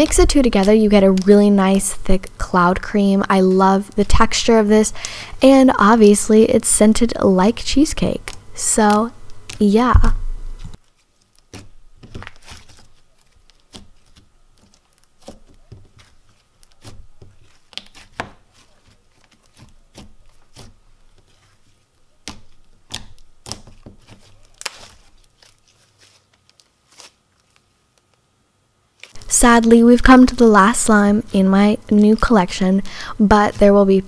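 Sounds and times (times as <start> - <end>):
slime being kneaded by hand: 0.0 - 28.2, 29.0 - 34.0.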